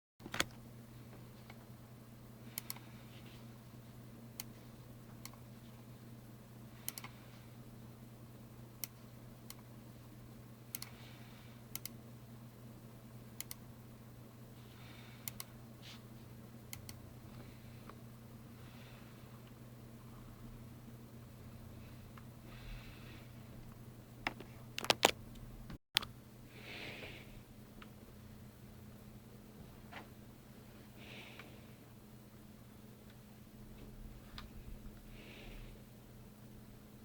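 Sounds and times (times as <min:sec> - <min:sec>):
low electrical hum: 0:00.2 - 0:37.0.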